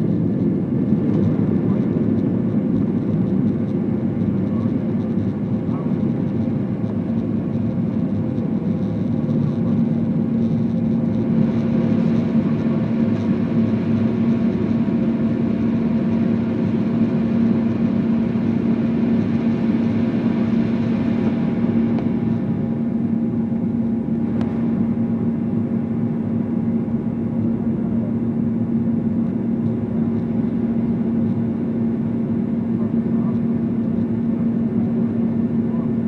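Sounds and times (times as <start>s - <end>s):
jet engines during takeoff: 0.0s - 36.0s.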